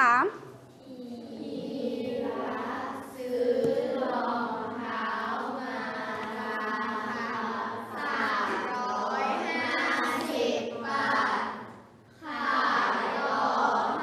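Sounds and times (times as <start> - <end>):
children reading aloud in unison: 0.0 - 14.0.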